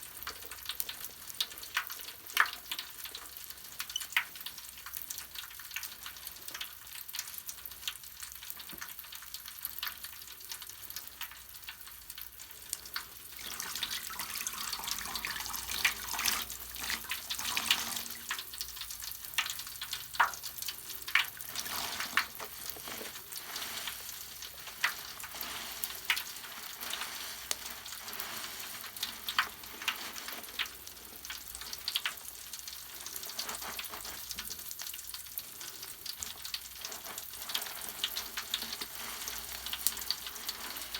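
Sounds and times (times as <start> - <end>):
bath foam fizzing: 0.0 - 40.9.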